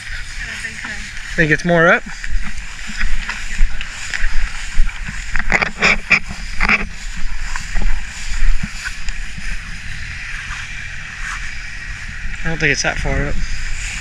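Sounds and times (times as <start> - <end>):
footsteps through tall grass: 0.0 - 14.0
wind rumbling on microphone: 0.0 - 14.0.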